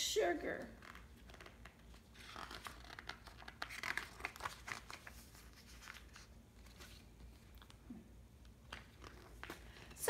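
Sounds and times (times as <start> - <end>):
book pages rustling: 0.8 - 10.0.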